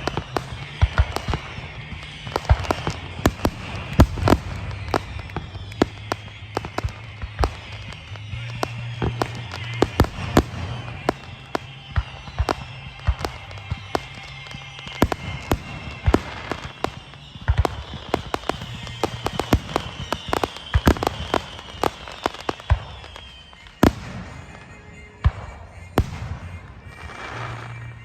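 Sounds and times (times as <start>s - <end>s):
falling high whistle: 0.0s - 28.0s
fireworks popping and banging: 0.0s - 28.0s.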